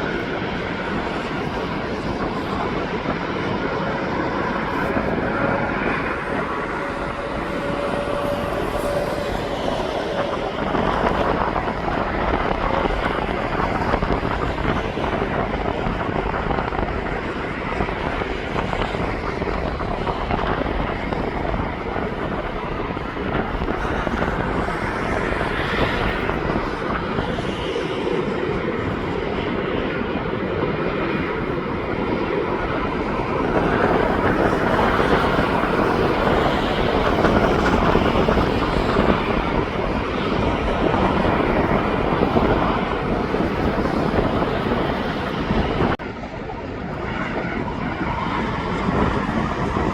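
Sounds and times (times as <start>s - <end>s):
jet airliner engines: 0.0s - 49.9s.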